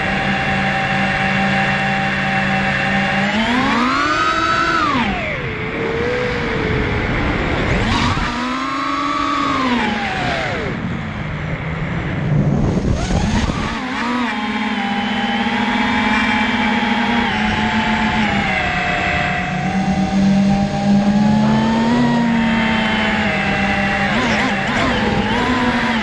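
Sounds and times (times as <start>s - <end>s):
quadcopter motors whining: 0.0s - 11.7s, 12.6s - 26.0s.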